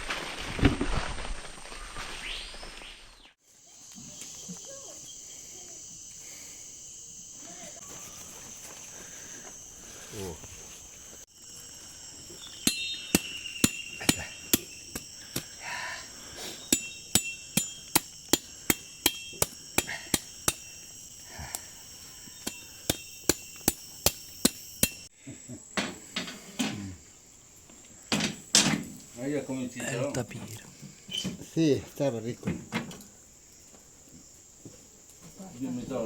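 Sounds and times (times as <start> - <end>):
insects buzzing: 2.2 - 36.0.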